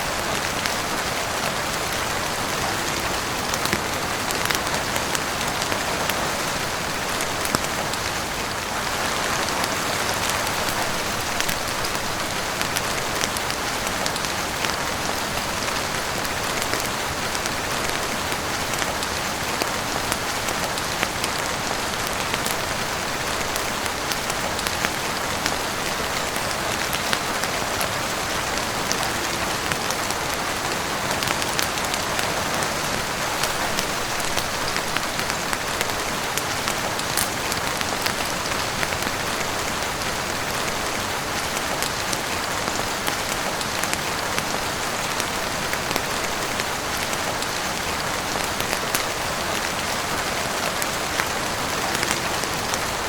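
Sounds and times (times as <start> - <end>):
heavy rain on roof and windows: 0.0 - 53.0.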